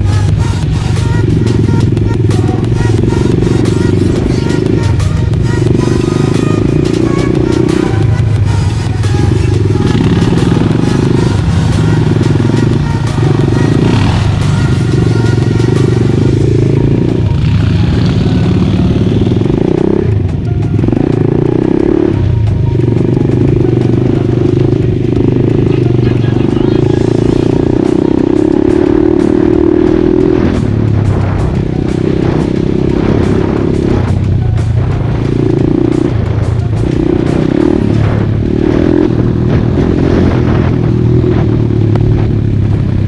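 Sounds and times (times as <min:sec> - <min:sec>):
quad bike engine revving: 0:00.0 - 0:43.0.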